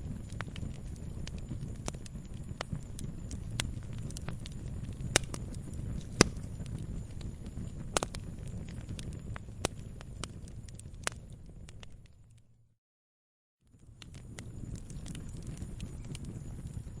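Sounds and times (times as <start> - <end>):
burning wood crackling and popping: 0.0 - 12.5, 13.7 - 17.0
campfire flames rumbling: 0.0 - 12.6, 13.7 - 17.0.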